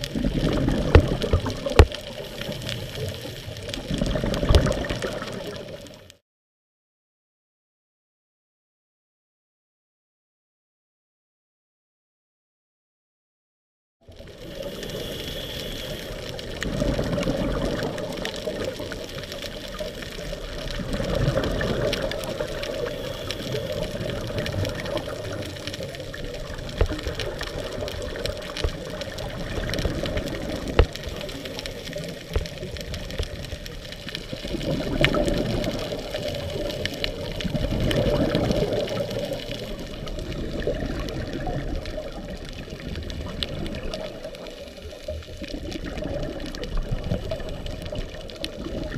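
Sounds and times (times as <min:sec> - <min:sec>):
scuba regulator bubbles surging: 0:00.0 - 0:06.1, 0:14.1 - 0:48.9
underwater water noise: 0:00.0 - 0:06.2, 0:14.0 - 0:48.9.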